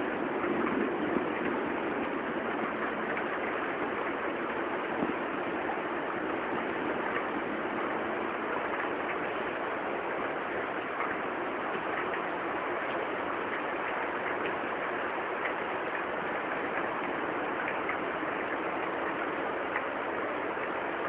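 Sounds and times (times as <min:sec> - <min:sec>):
heavy rain hiss: 0:00.0 - 0:21.0
raindrop ticks: 0:00.0 - 0:21.0.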